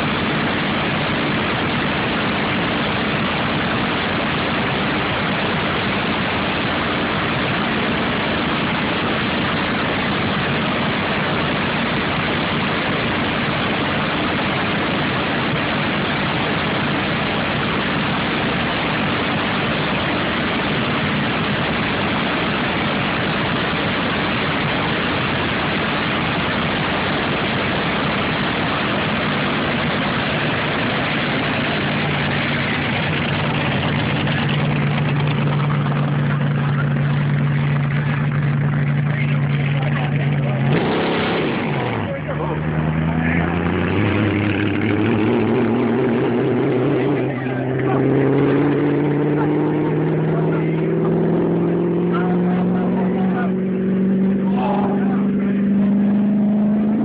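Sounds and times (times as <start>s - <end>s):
deep truck engine: 0.0s - 57.0s
vehicle engine idling: 0.0s - 57.0s.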